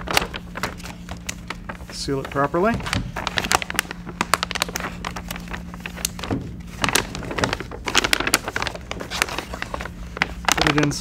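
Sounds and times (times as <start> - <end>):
foil bag crinkling: 0.0 - 11.0.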